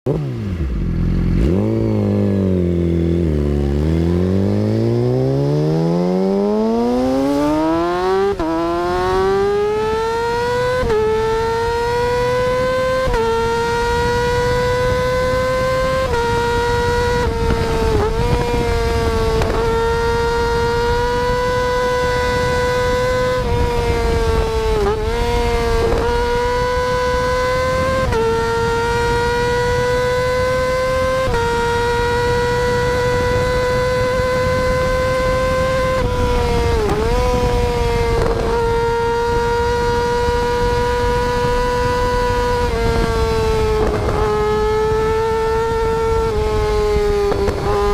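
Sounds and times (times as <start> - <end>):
motorcycle engine accelerating: 0.1 - 47.9.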